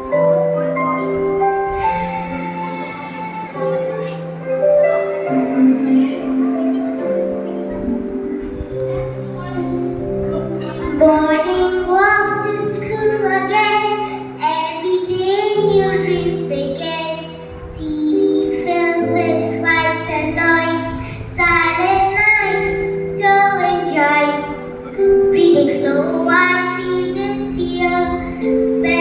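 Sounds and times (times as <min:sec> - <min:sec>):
sustained accompaniment chords: 0:00.0 - 0:29.0
child singing: 0:00.3 - 0:29.0.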